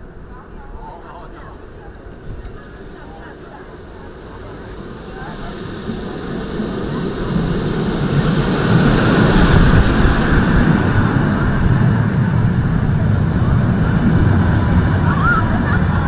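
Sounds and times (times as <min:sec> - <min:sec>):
steel wheels rumbling on rails: 0:00.0 - 0:16.0.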